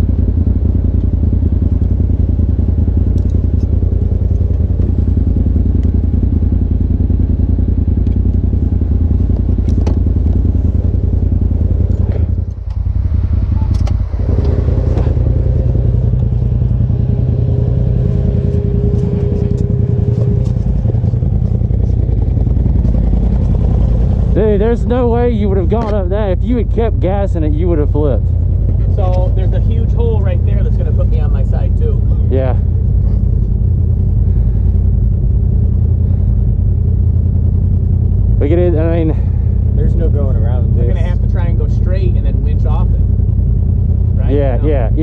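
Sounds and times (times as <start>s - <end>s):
utility vehicle engine idling: 0.0s - 45.0s.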